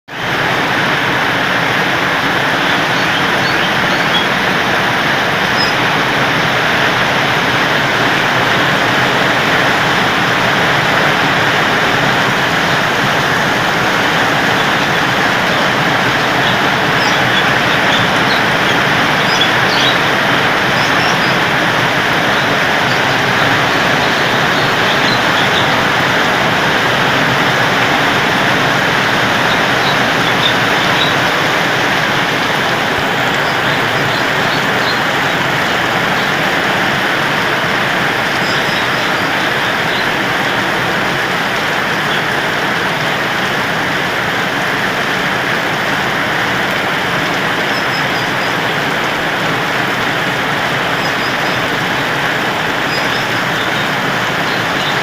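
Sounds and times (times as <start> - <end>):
heavy rain pouring: 0.1 - 55.0.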